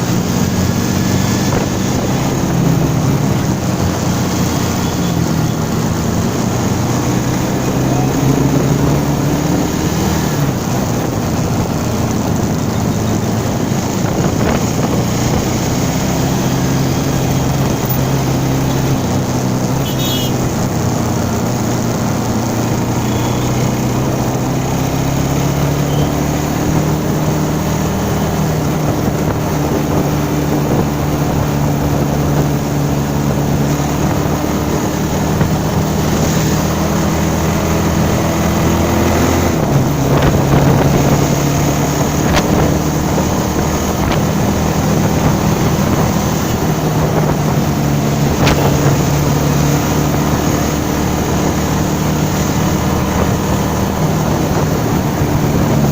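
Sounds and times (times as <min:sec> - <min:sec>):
wind rushing over microphone: 0:00.0 - 0:19.7, 0:23.6 - 0:55.9
vehicle engine running: 0:00.0 - 0:55.9.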